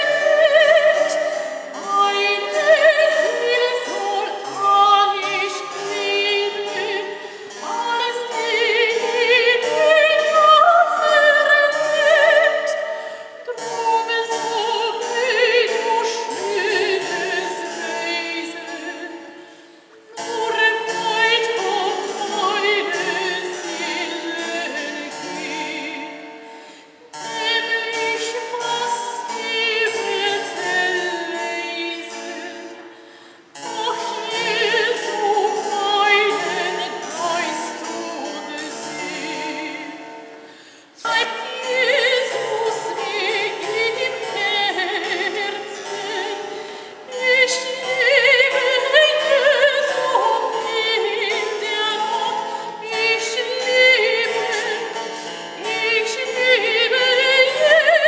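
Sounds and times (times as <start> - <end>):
soprano singing with vibrato: 0.0 - 26.3, 27.2 - 32.9, 33.5 - 40.1, 40.9 - 58.0
harpsichord: 0.0 - 58.0.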